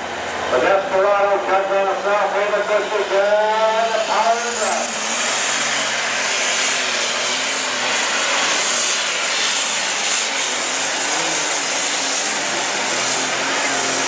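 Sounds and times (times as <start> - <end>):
high turbocharger whine: 0.0 - 14.0.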